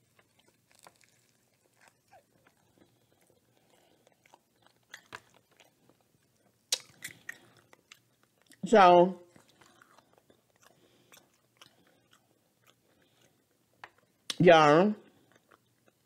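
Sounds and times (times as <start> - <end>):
person chewing crunchy food: 0.0 - 14.3, 15.0 - 16.0.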